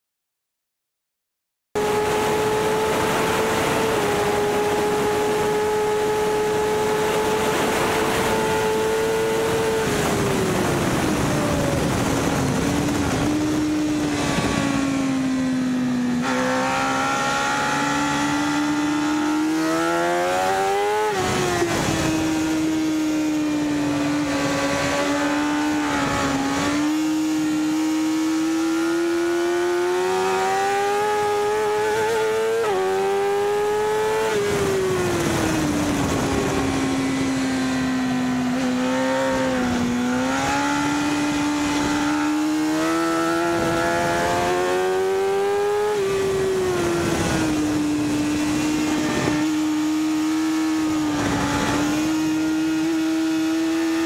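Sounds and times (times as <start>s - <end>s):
motorcycle engine at high revs: 1.8s - 54.0s
wind noise: 1.8s - 54.0s.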